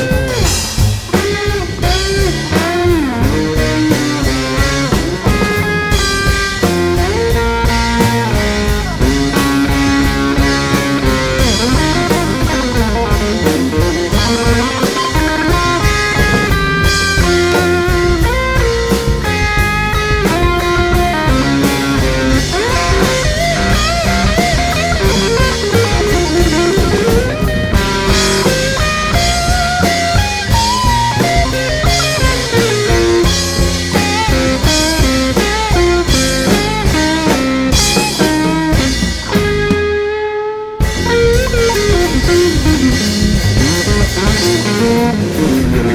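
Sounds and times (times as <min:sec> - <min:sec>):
rock music: 0:00.0 - 0:45.9.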